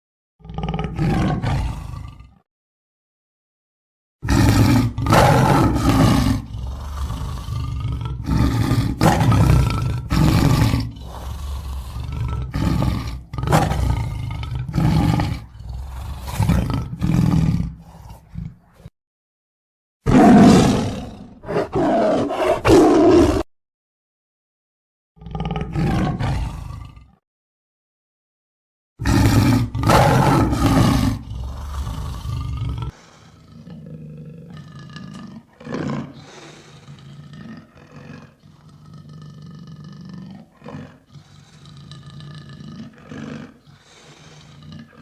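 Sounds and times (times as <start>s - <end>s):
lion roaring: 0.4s - 2.4s, 4.2s - 18.9s, 20.1s - 23.5s, 25.2s - 27.2s, 29.0s - 45.0s.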